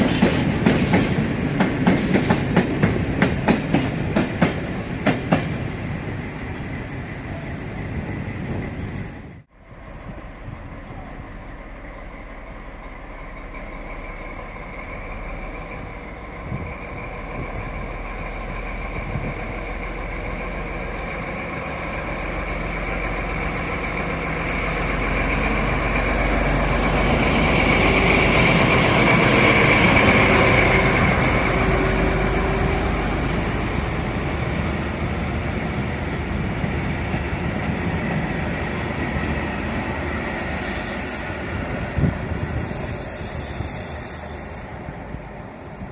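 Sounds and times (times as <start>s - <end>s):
freight train rumbling: 0.0s - 45.9s.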